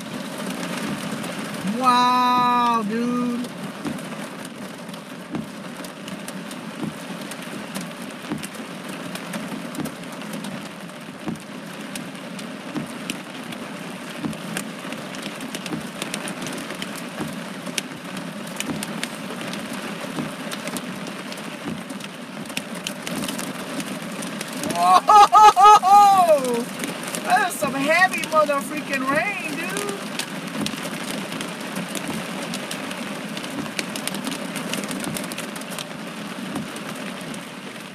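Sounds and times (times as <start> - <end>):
heavy rain on car roof: 0.0 - 37.9.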